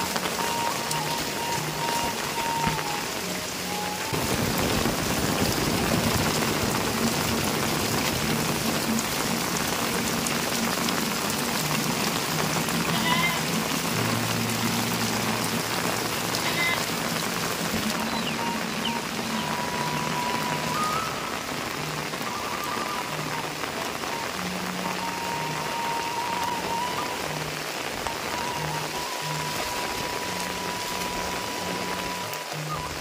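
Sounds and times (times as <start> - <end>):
rain falling on tiled roofs: 0.0 - 33.0.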